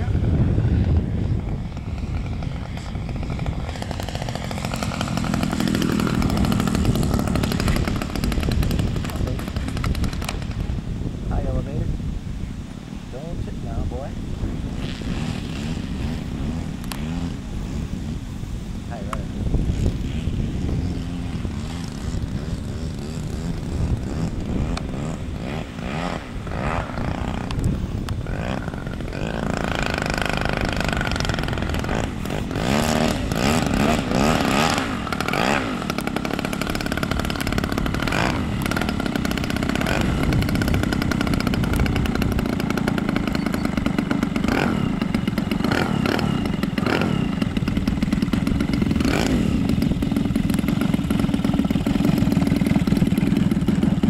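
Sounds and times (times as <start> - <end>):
model airplane engine running: 0.0 - 11.9, 12.7 - 54.0
engine throttle blips: 0.8 - 10.7, 14.7 - 54.0.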